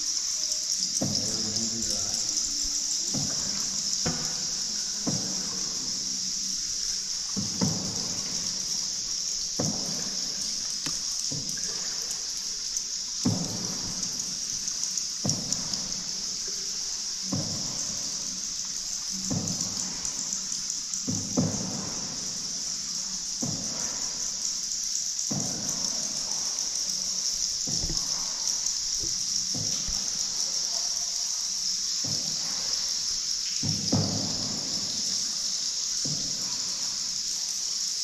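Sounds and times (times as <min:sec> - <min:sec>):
steady high hiss: 0:00.0 - 0:38.0
water dripping: 0:00.0 - 0:38.0
paddle splashing in water: 0:00.8 - 0:38.0.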